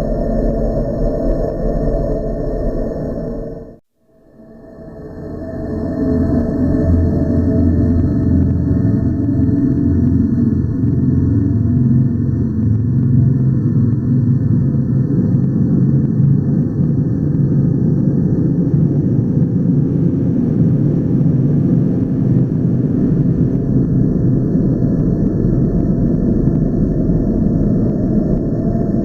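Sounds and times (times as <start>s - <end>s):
deep rumble sound effect: 4.5s - 29.0s.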